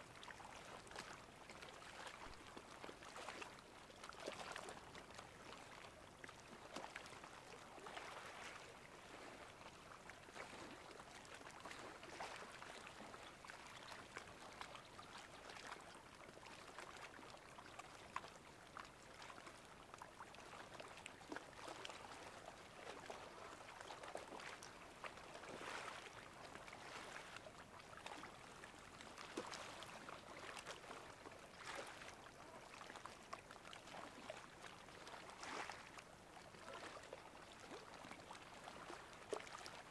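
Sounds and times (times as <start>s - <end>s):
seawater lapping and trickling: 0.0s - 39.9s
small water splashes and clicks: 0.0s - 39.9s.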